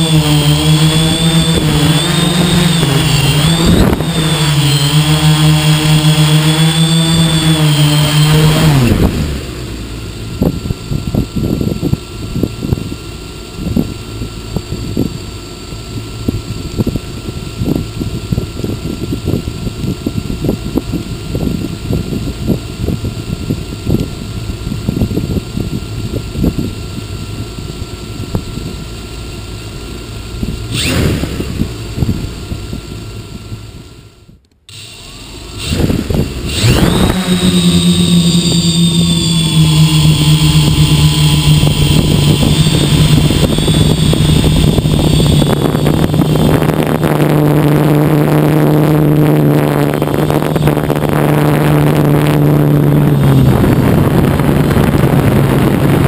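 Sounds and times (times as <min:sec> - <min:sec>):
wind against microphone: 0:00.0 - 0:34.4, 0:35.6 - 0:56.0
drone motors whining: 0:00.0 - 0:56.0
faint steady whine: 0:07.1 - 0:56.0.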